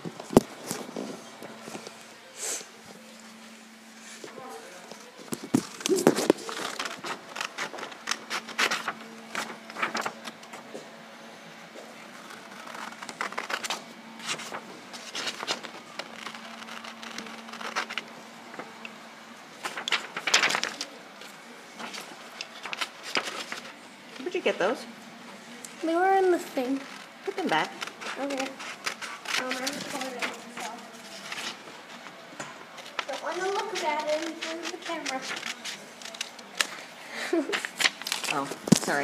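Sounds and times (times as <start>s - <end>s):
paper rustling and crinkling: 0.0s - 2.2s, 3.0s - 10.7s, 12.1s - 18.8s, 19.6s - 24.5s, 25.3s - 39.0s
faint steady hum: 0.0s - 39.0s.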